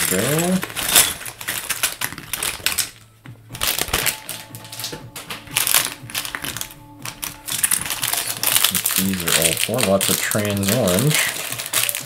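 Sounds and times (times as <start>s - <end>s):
plastic pieces clicking and rattling: 0.0s - 3.0s, 3.6s - 12.0s.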